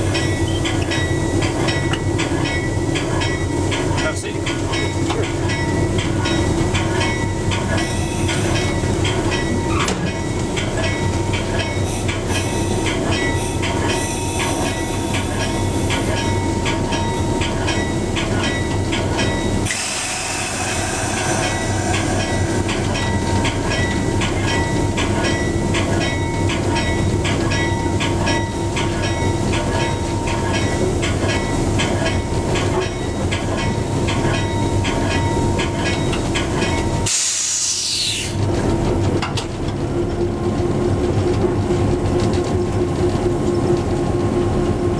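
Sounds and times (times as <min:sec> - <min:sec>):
train wheels clicking on rail joints: 0:00.0 - 0:44.9.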